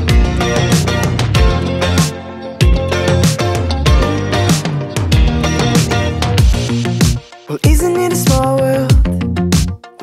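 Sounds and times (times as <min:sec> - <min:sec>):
pop music with drum beat: 0:00.0 - 0:10.0.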